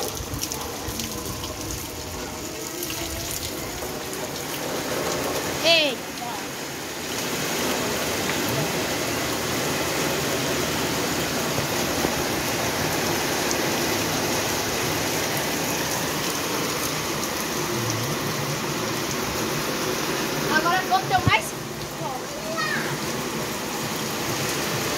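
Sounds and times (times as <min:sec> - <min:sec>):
heavy rain on pavement: 0:00.0 - 0:24.9.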